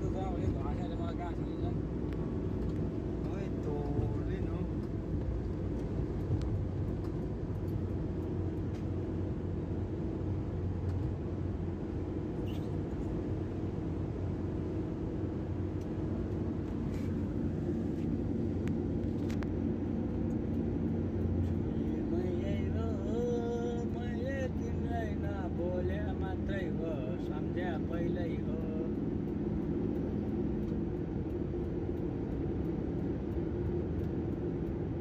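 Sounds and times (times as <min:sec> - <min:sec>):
car engine and tyre rumble: 0:00.0 - 0:35.0.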